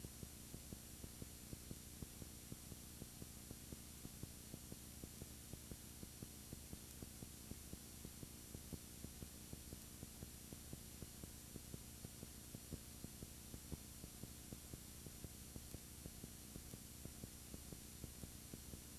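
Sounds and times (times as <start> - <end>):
electrical hum and hiss: 0.0 - 18.9
faint regular ticking: 0.6 - 18.9.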